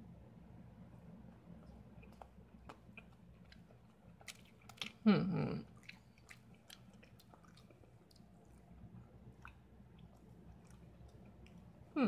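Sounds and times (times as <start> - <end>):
person chewing cupcake: 1.3 - 12.0.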